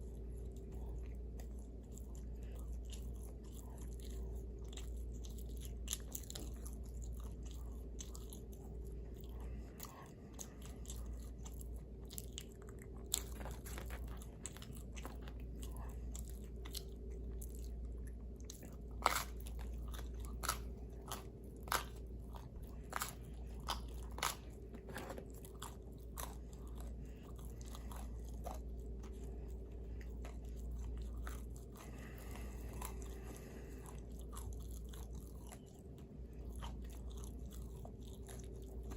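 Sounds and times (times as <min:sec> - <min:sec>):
person chewing pizza: 0:00.0 - 0:38.9
steady low hum: 0:00.0 - 0:38.9.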